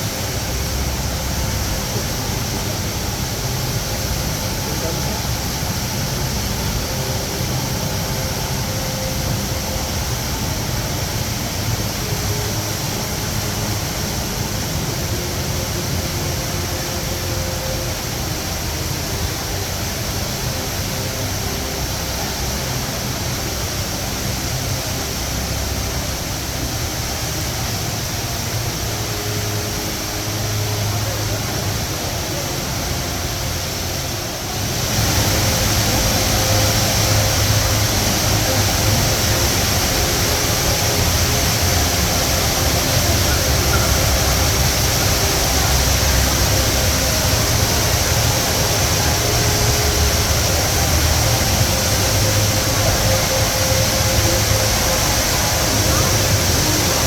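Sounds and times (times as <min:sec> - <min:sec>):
indoor waterfall roaring: 0:00.0 - 0:57.0.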